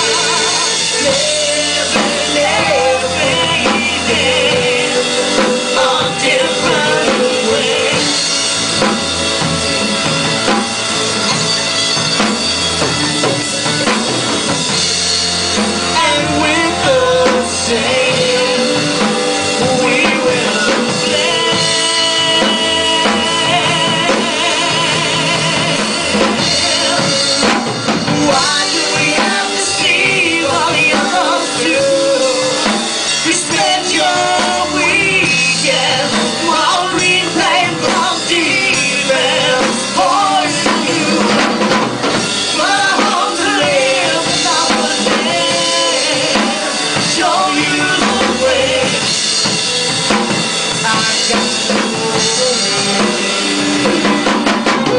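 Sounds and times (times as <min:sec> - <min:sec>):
drum kit beat: 0:00.0 - 0:54.9
rock band playing live: 0:00.0 - 0:54.9.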